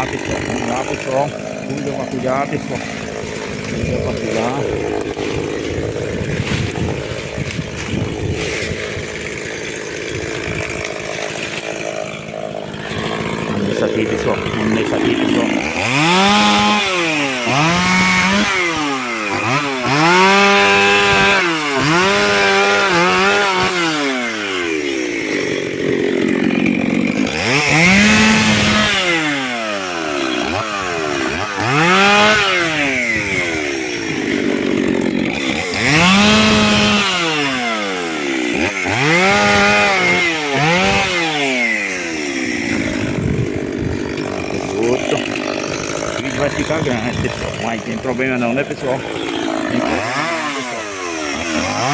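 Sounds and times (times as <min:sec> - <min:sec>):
chainsaw revving cutting wood: 0:00.0 - 0:51.9.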